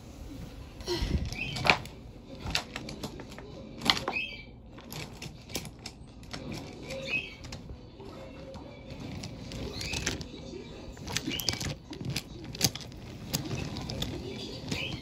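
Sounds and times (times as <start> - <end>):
toy train clicking and knocking: 1.4 - 15.0.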